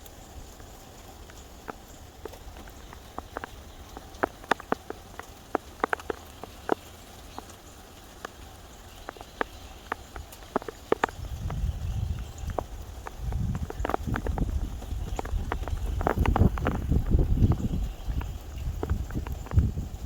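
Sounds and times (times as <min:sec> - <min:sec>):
raindrops tapping hard surface: 0:00.0 - 0:20.0
wind rumbling on microphone: 0:00.0 - 0:20.0.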